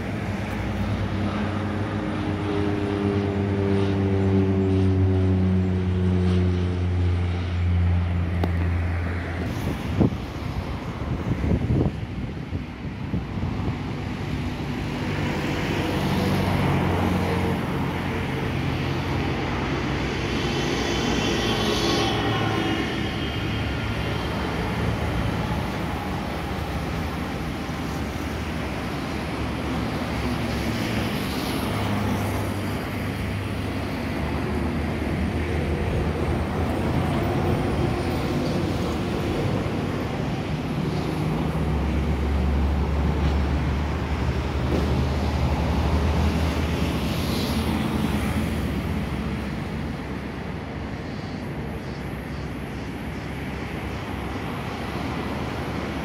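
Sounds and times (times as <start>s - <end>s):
jet engines rumbling: 0.0s - 56.0s
road traffic noise: 0.0s - 56.0s.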